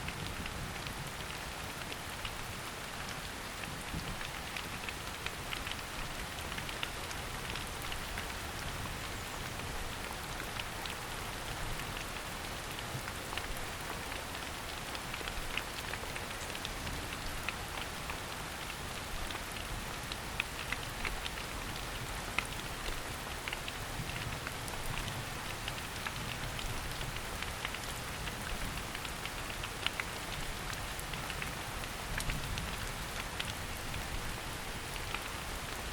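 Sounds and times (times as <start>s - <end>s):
rain drops tapping: 0.0s - 35.9s
rain on foliage: 0.0s - 35.9s.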